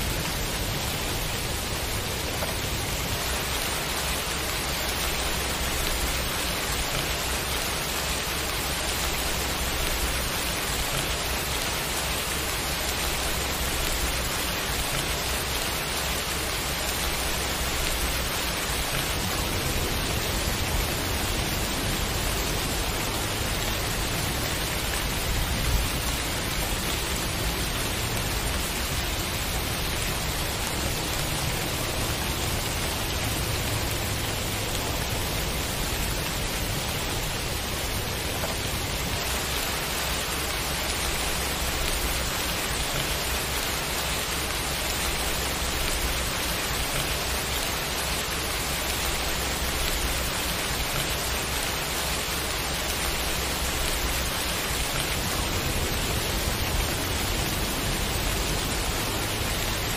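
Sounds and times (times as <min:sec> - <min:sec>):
rain on wet pavement: 0:00.0 - 0:59.9.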